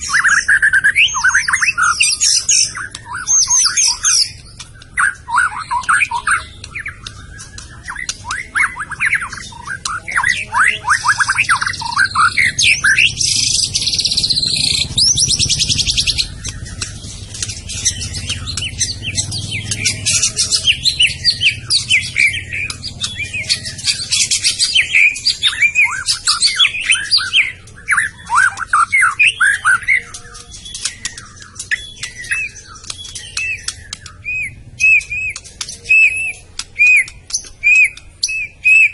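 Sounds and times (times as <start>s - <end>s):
bird singing whistled song: 0.0s - 38.9s
high buzzing bird trill: 0.0s - 38.9s.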